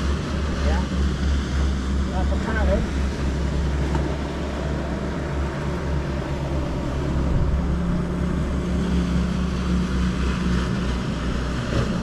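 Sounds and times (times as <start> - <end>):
boat engine droning: 0.0 - 12.0
sea noise: 0.0 - 12.0
wind: 0.0 - 12.0.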